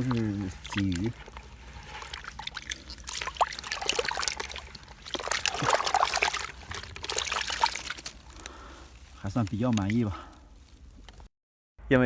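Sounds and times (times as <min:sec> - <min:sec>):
water splashing and trickling: 0:00.0 - 0:11.3.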